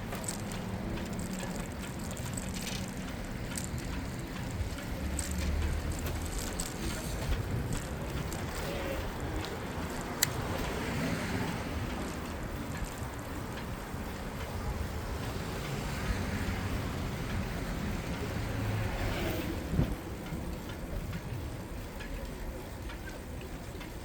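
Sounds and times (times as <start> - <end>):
traffic: 0.0 - 24.0.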